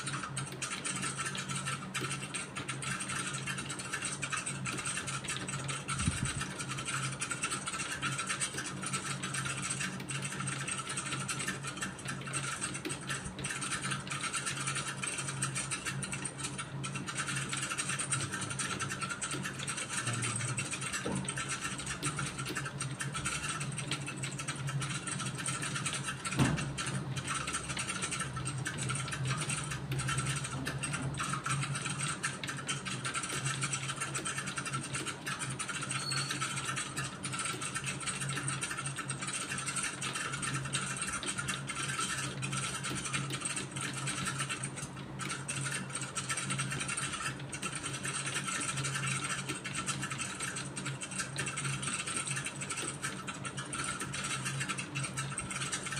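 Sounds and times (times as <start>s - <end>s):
background hum and hiss: 0.0s - 55.9s
keyboard typing: 0.0s - 55.9s.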